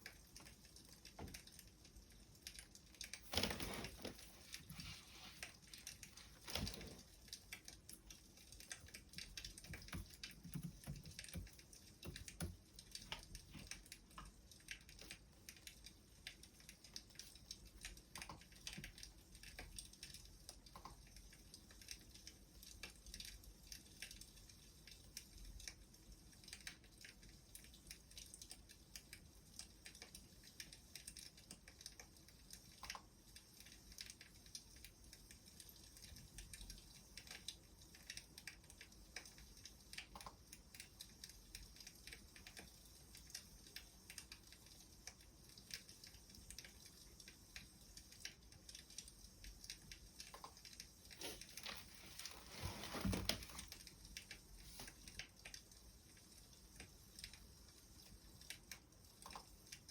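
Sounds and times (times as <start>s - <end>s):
wood fire crackling faintly: 0.0s - 59.9s.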